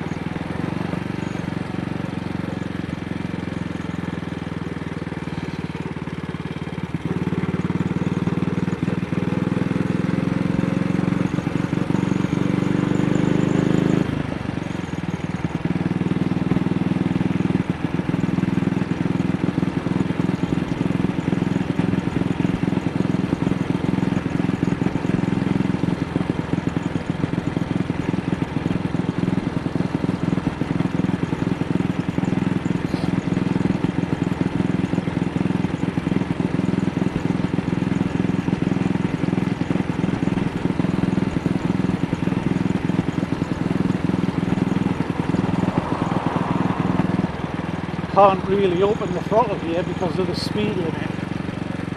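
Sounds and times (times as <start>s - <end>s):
motorcycle engine running unevenly: 0.0s - 51.9s.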